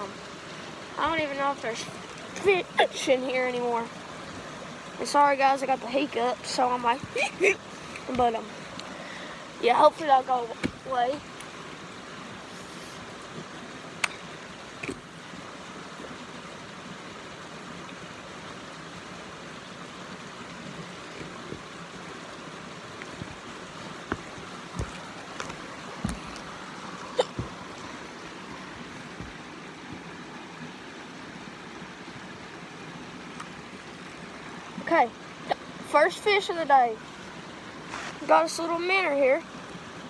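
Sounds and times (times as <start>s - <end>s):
creek water running: 0.0s - 40.0s.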